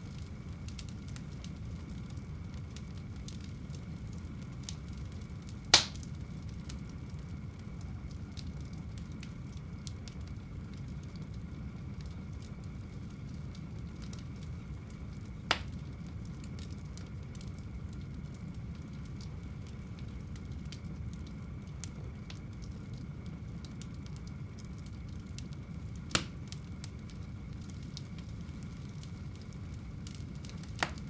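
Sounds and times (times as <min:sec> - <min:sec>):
fire flames rumbling and crackling: 0:00.0 - 0:31.0
sharp pops from burning wood: 0:00.1 - 0:11.4, 0:12.0 - 0:31.0.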